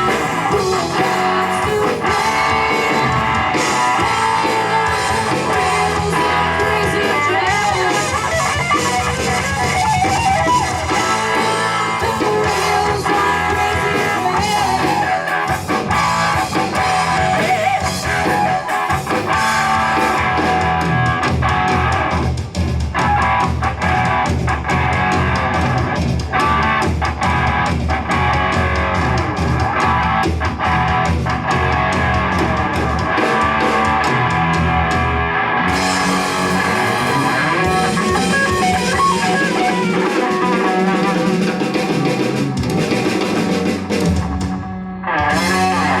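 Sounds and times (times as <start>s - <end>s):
bass: 0.0s - 46.0s
drum kit: 0.0s - 46.0s
electric guitar: 0.0s - 46.0s.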